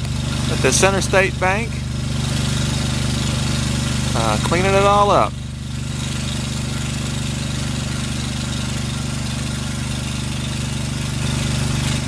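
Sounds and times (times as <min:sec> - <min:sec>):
petrol engine running: 0:00.0 - 0:12.0.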